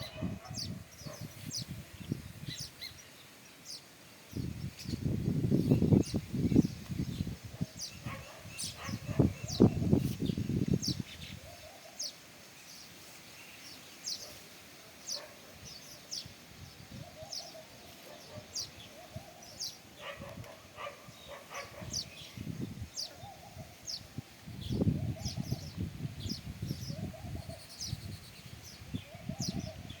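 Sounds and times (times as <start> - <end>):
sparrows chirping: 0.0 - 30.0.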